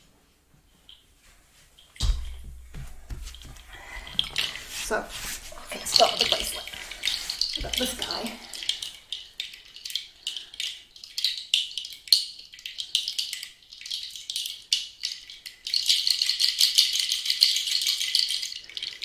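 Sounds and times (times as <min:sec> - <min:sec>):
rattle bracelet shaking: 0:02.0 - 0:19.0.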